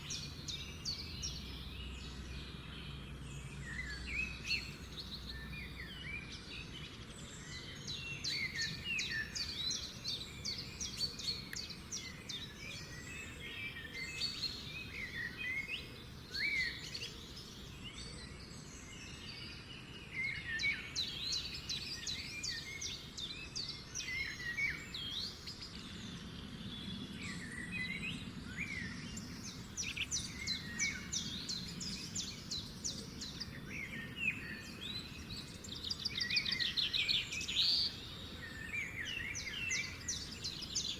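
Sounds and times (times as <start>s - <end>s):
birds singing: 0.0s - 40.9s
faint low background noise: 0.0s - 40.9s.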